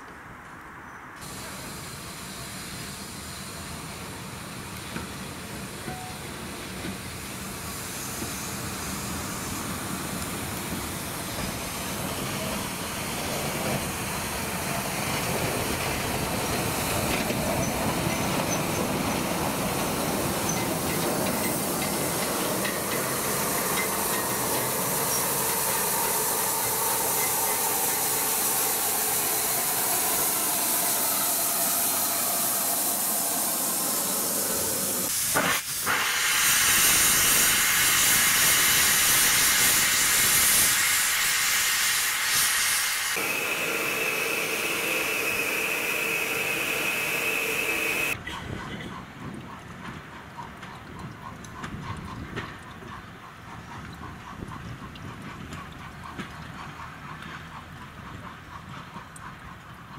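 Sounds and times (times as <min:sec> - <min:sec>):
steam locomotive passing: 0:00.0 - 0:59.9
rush of steam: 0:01.2 - 0:50.2.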